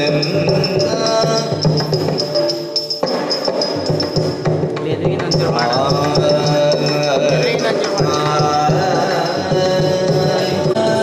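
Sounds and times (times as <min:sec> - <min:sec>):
light metallic beat strikes: 0:00.0 - 0:11.0.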